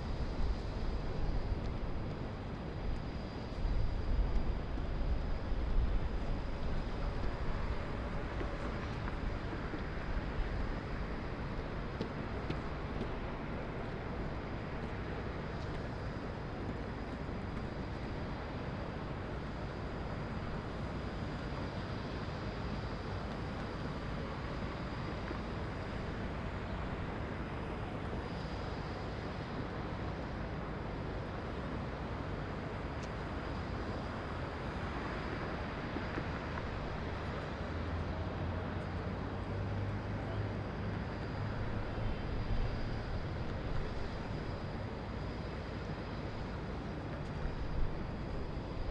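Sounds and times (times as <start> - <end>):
distant city traffic: 0.0 - 48.9
low engine drone: 0.0 - 48.9.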